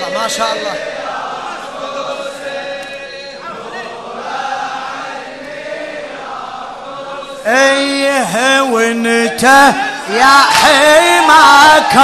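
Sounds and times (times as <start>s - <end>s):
crowd chanting: 0.0s - 12.0s.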